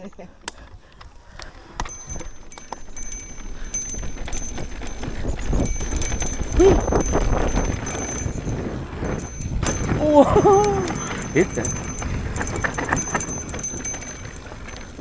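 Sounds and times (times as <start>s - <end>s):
bike clicks and rattles: 0.0s - 15.0s
bike tyres rumbling on trail: 0.2s - 15.0s.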